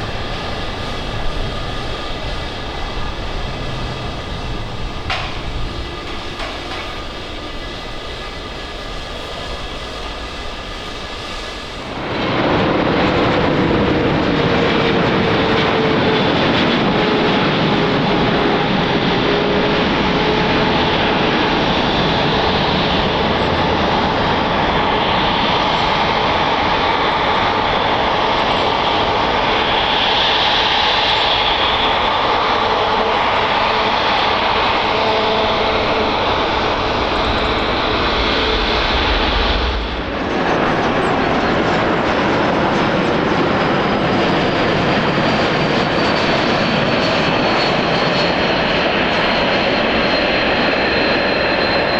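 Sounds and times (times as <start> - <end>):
jet engine roar: 0.0 - 51.9
jet engines whining: 0.0 - 51.9.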